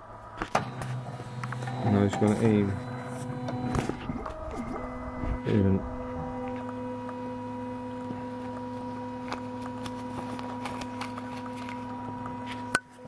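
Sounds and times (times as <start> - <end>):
printer humming with steady tones: 0.0 - 13.0.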